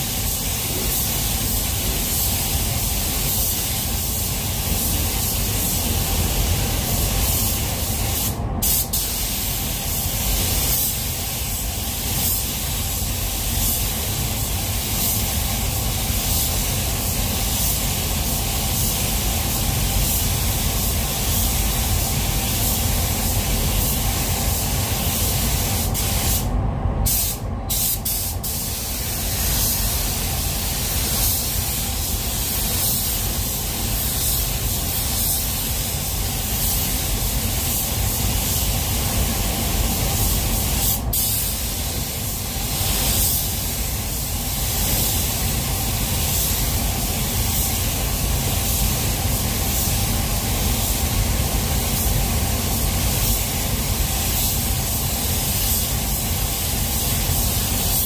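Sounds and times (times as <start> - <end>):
spray gun hissing: 0.0 - 58.0.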